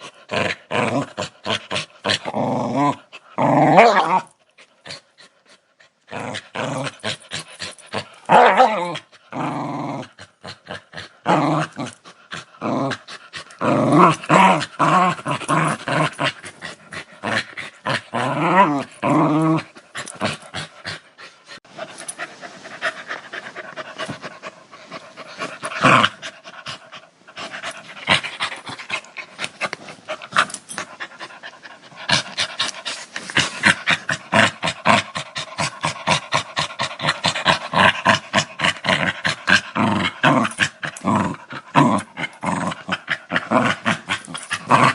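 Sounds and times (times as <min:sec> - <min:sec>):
dog growling and snarling: 0:00.0 - 0:44.9.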